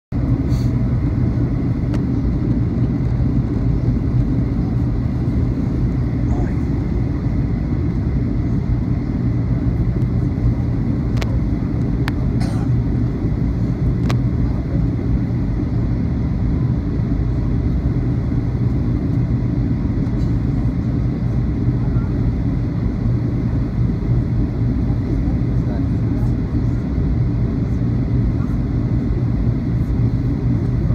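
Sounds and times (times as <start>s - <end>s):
jet engines rumbling in cabin: 0.1s - 30.9s.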